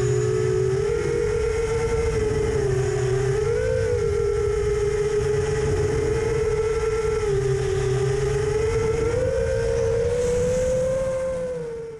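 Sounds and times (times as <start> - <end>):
drone motors whining: 0.0 - 11.9.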